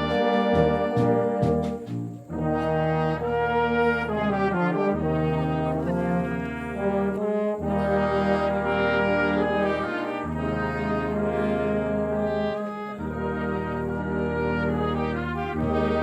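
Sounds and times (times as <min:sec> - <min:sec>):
wind orchestra playing chords: 0:00.0 - 0:16.0.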